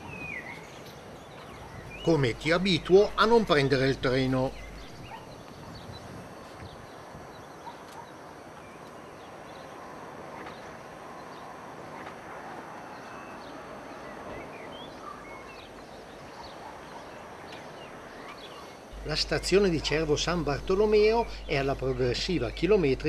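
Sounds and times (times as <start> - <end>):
distant train rumble: 0.0 - 23.0
small birds chirping: 0.0 - 23.0.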